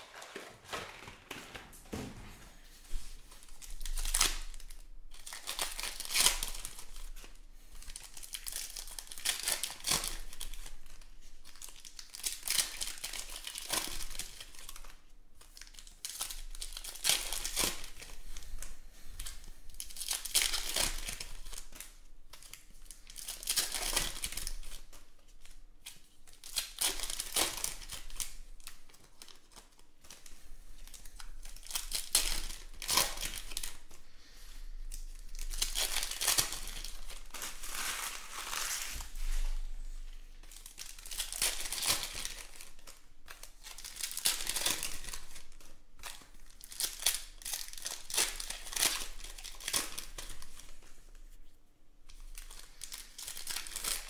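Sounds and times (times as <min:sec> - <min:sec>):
foil wrappers tearing and crinkling: 0:03.4 - 0:39.6, 0:40.4 - 0:50.9, 0:52.1 - 0:54.0.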